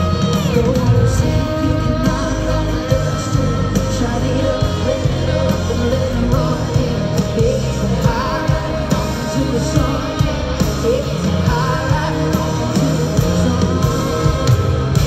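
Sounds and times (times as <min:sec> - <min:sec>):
country-rock band playing: 0:00.0 - 0:15.0
drums: 0:00.0 - 0:15.0.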